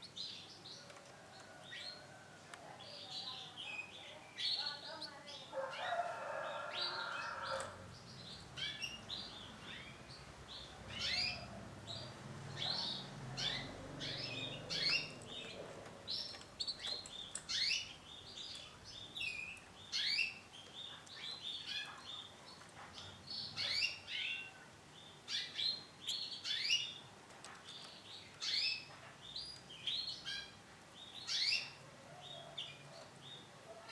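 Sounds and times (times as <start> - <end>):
canary chirping: 2.8 - 24.6, 25.3 - 33.9.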